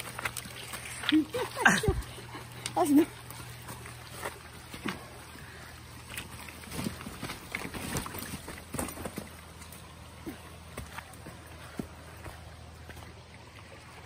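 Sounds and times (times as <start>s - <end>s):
bicycle clattering across stream: 0.0s - 14.0s
stream running over stones: 0.0s - 14.0s.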